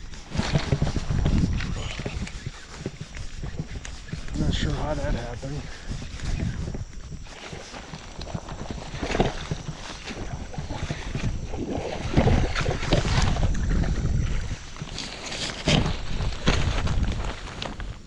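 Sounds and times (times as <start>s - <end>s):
handling knocks and rustles: 0.0s - 18.0s
wind buffeting microphone: 0.0s - 18.0s.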